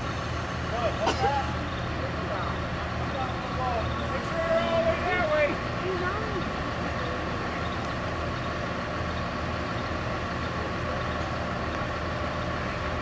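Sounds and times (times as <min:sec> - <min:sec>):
heavy engine droning: 0:00.0 - 0:13.0.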